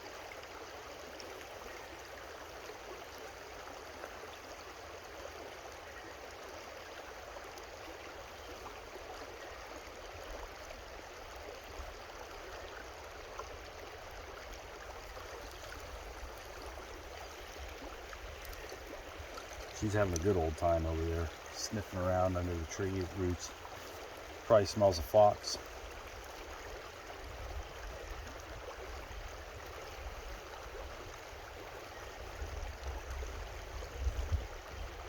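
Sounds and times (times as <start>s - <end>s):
creek flowing over rocks: 0.0s - 35.0s.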